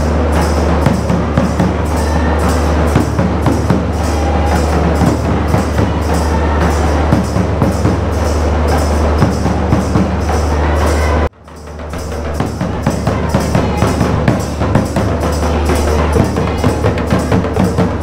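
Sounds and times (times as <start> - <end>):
folk drumming fast rhythm: 0.0 - 18.0.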